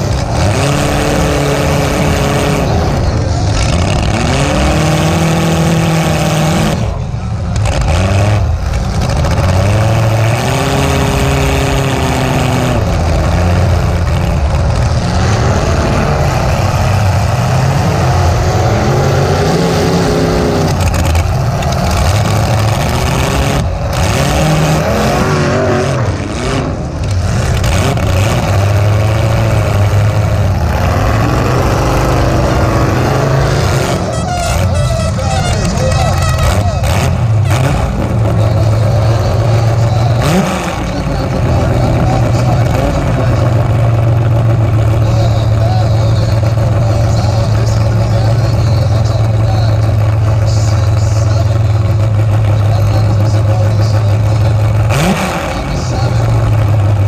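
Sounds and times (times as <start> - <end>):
loud car engine revving: 0.0 - 57.0.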